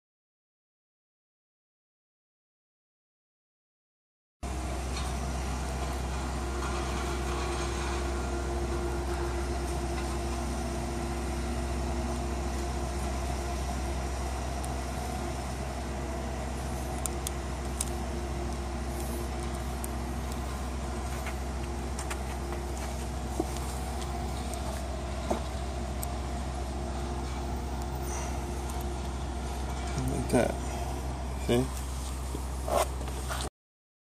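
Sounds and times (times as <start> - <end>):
steady mechanical hum: 4.4 - 33.5.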